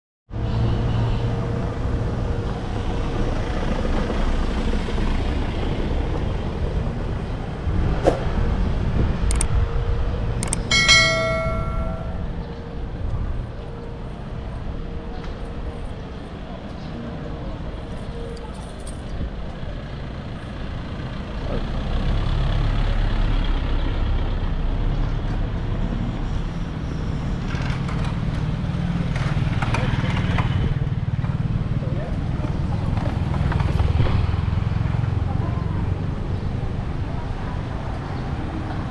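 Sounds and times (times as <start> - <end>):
street traffic rumble: 0.3 - 38.9.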